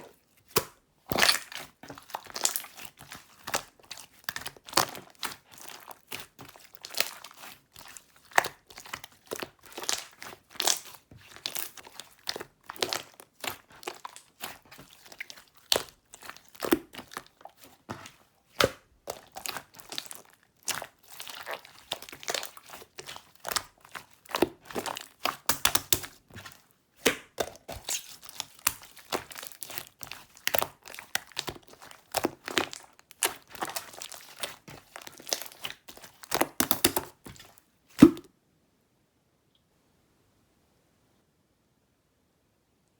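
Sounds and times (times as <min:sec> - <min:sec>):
hands squeezing crunchy slime: 0:00.0 - 0:38.3.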